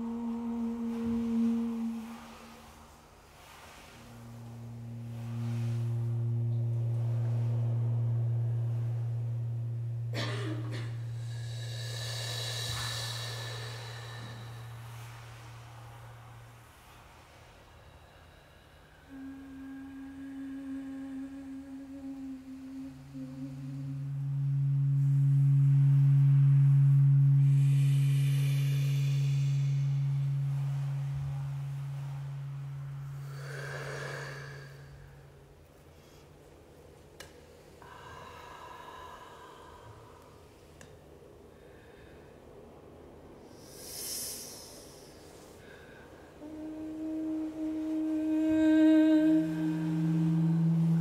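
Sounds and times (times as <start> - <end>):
faint higher tones: 0.0 - 51.0
low sustained music tone: 0.0 - 51.0.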